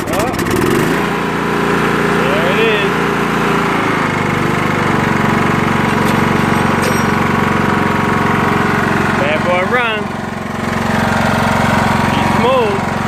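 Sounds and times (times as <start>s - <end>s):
riding mower engine running: 0.0s - 13.0s.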